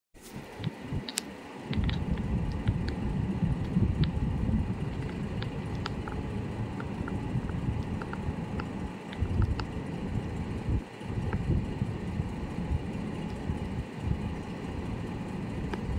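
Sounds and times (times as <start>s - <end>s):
wind rumbling on microphone: 0.3s - 15.9s.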